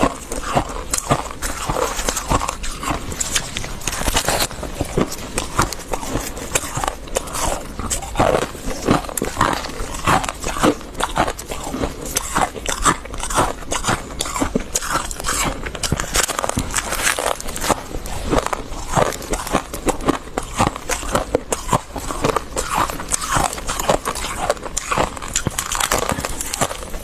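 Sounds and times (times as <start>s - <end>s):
frost crunching being chewed: 0.0s - 27.0s.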